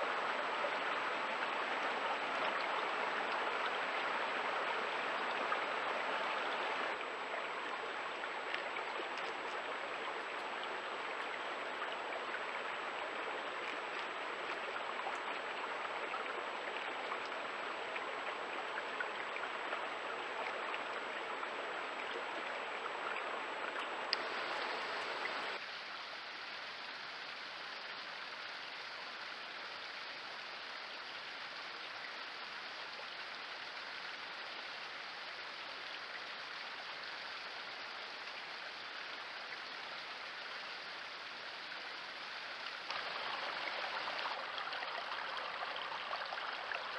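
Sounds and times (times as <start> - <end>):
stream running over rocks: 0.0 - 46.9.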